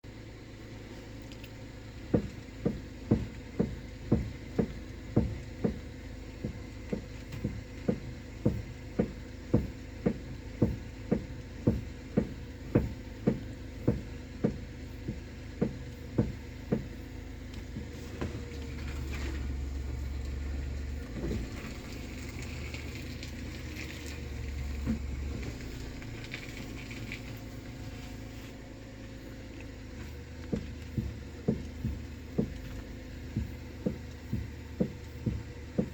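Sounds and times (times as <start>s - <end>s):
steady low hum: 0.0s - 35.9s
sharp knocking from steering gearbox: 2.0s - 27.8s, 29.9s - 35.9s.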